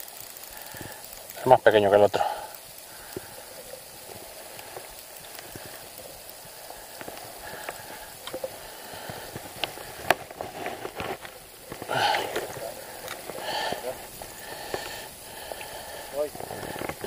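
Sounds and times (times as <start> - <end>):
fishing reel ticking: 0.0 - 17.0
light water sounds: 0.0 - 17.0.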